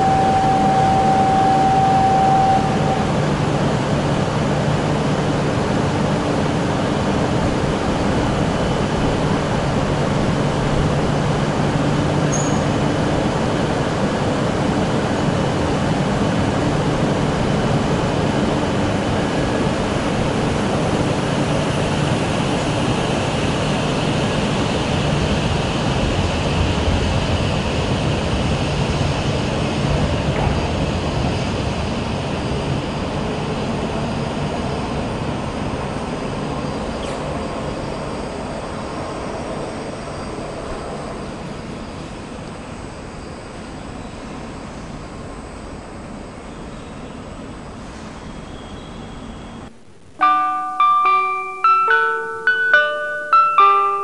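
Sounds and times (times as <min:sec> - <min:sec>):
high-speed train running: 0:00.0 - 0:54.0.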